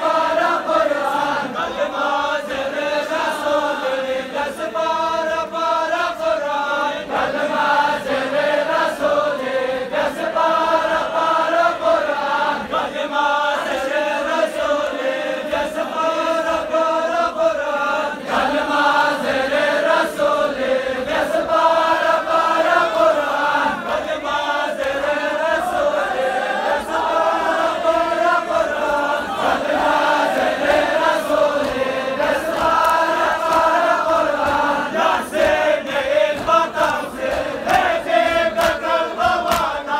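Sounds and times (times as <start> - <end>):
men chanting a lament: 0.0 - 39.9.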